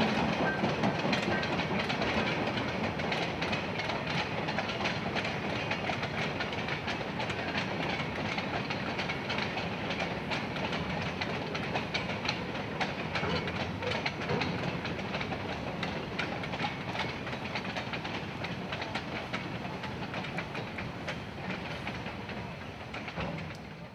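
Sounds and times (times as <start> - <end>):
train wheels clicking over rails: 0.0 - 23.9.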